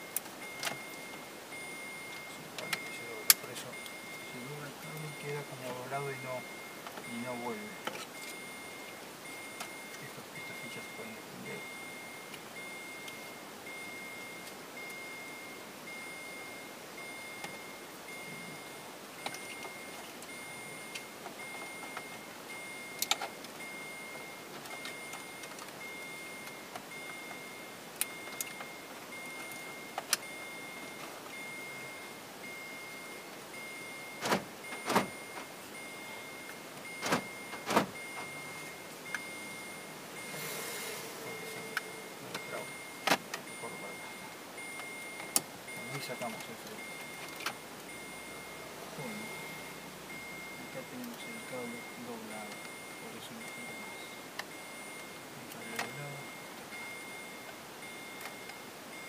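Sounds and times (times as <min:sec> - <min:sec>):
faint repeating beep: 0:00.0 - 0:59.0.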